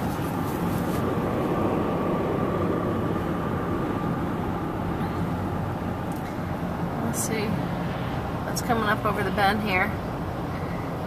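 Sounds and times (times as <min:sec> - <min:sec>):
faint steady whine: 0:00.0 - 0:11.0
tyre and engine rumble: 0:00.0 - 0:11.0.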